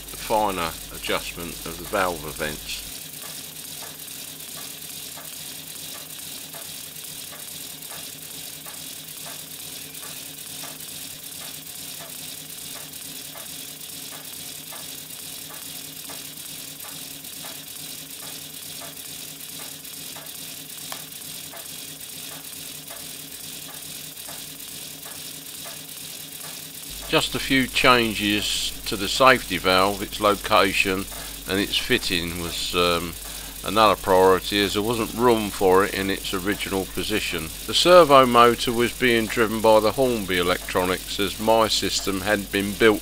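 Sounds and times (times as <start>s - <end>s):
model steam locomotive rattling: 0.0s - 43.0s.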